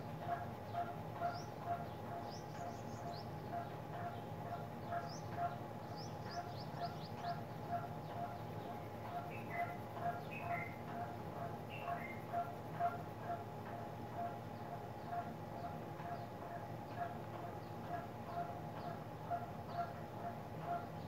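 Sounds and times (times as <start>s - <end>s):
repeated low bird call: 0.0s - 21.0s
birds chirping: 0.2s - 21.0s.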